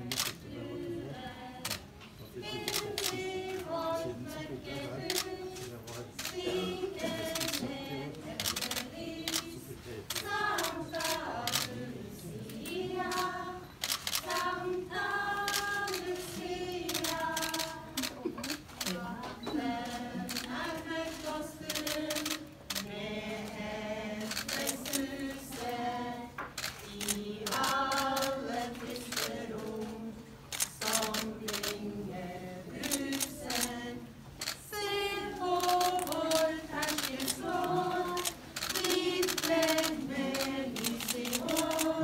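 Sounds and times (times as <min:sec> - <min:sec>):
choir singing a cappella: 0:00.0 - 0:42.0
camera shutter clicks: 0:00.1 - 0:00.4, 0:02.5 - 0:03.7, 0:05.0 - 0:07.8, 0:08.4 - 0:11.8, 0:12.7 - 0:14.6, 0:15.2 - 0:19.0, 0:19.6 - 0:26.0, 0:26.6 - 0:29.9, 0:30.5 - 0:31.9, 0:32.8 - 0:42.0.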